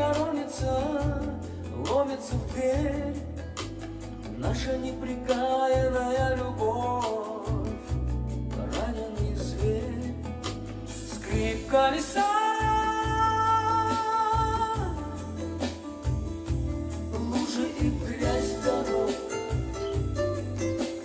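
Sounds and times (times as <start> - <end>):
pop song through a speaker: 0.0 - 21.0.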